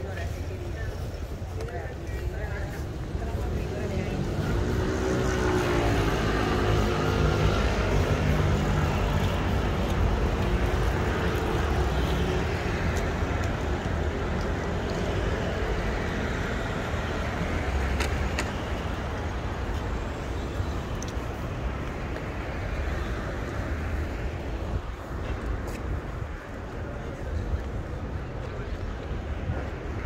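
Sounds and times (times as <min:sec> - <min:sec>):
cars passing: 0:00.0 - 0:30.0
road noise: 0:00.0 - 0:30.0.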